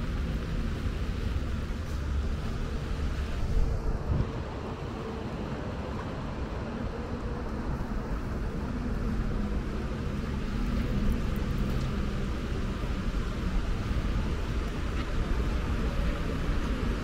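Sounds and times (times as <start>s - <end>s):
engine hum: 0.0s - 17.0s
rain hiss on wet pavement: 0.0s - 17.0s
traffic rumble: 0.0s - 17.0s.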